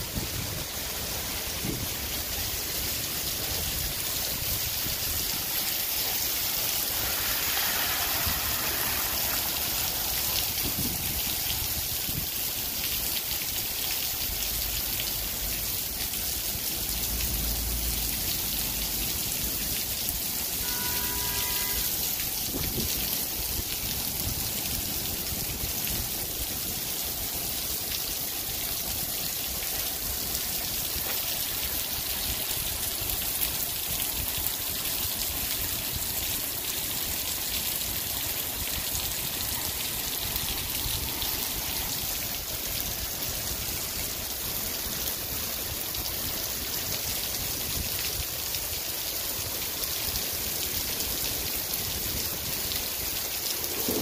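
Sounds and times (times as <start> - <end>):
heavy rain hissing: 0.0 - 54.0
runoff dripping off roof: 0.0 - 54.0.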